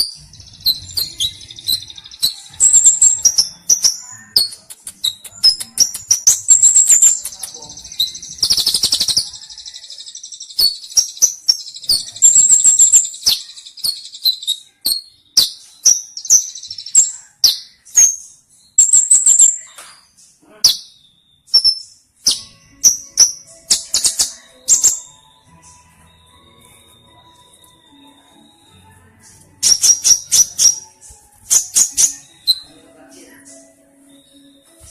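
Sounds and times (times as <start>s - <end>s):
sunbird chirping and trilling: 0.0s - 34.9s.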